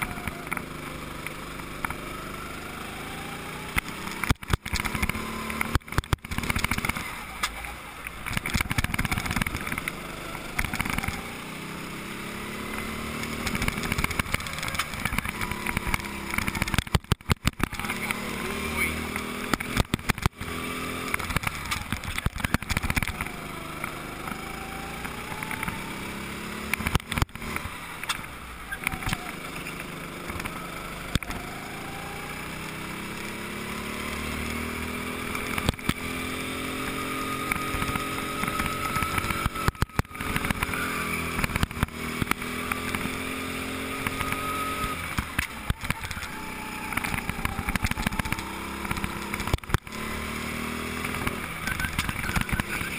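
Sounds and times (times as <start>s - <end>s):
go-kart engine revving: 0.0s - 52.9s.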